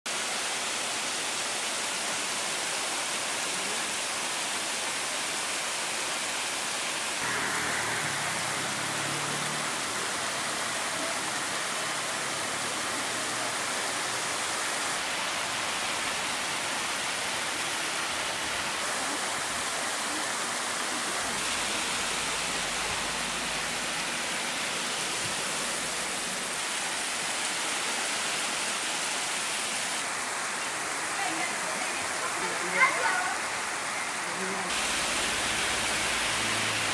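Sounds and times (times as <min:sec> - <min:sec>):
heavy rain and hail: 0:00.1 - 0:36.9.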